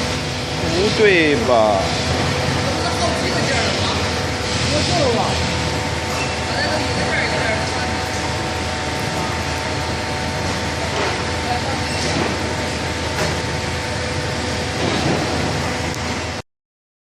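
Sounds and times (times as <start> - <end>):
baler machine hum: 0.0 - 16.4.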